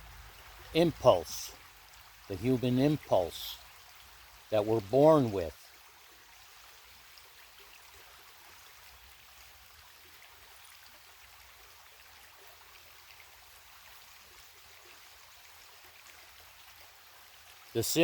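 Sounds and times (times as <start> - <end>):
creek flowing: 0.0 - 18.0.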